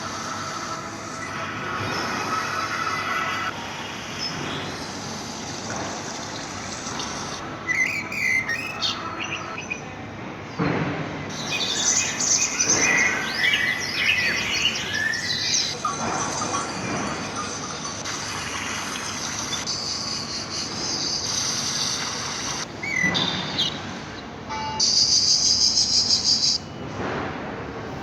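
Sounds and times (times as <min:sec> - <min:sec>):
birds chirping: 0:00.0 - 0:10.6, 0:11.3 - 0:26.8
steady background noise: 0:00.0 - 0:28.0.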